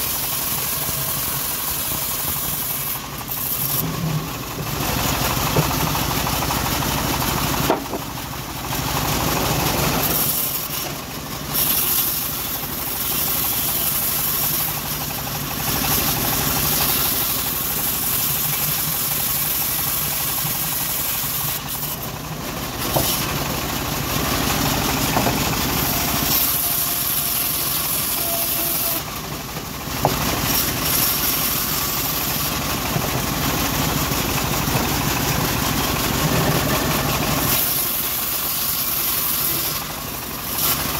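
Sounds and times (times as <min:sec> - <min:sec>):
saw blade hissing through wood: 0:00.0 - 0:07.9, 0:09.5 - 0:29.2, 0:30.1 - 0:33.0, 0:34.0 - 0:40.9
band sawmill drone: 0:00.0 - 0:40.9.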